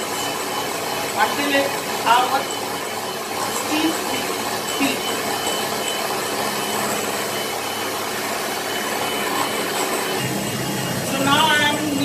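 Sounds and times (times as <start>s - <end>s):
electric hand mixer whisking: 0.0s - 12.0s.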